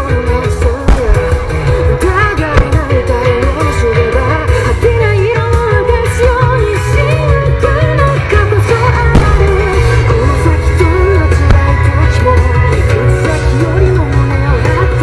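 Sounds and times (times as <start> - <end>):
person singing over a driving beat: 0.0 - 15.0.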